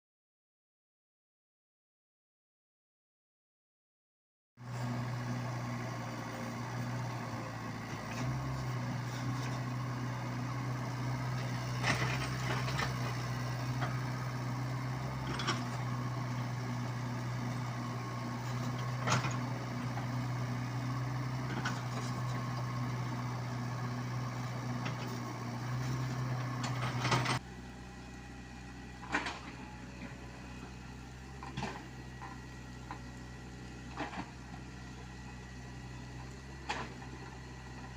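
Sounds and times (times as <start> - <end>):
excavator diesel engine running: 4.6 - 37.9.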